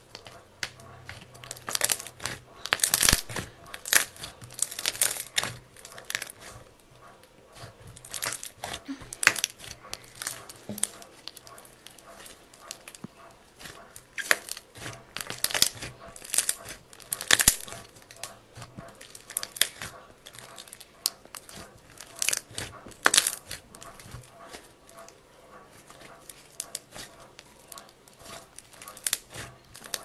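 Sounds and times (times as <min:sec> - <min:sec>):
hands squishing sticky slime: 0:00.0 - 0:30.0.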